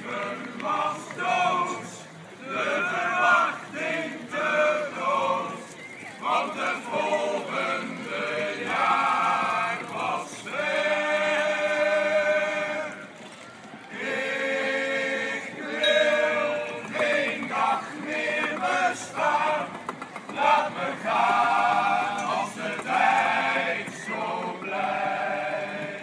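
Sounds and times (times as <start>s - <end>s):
men's choir singing: 0.0s - 13.2s, 13.9s - 26.0s.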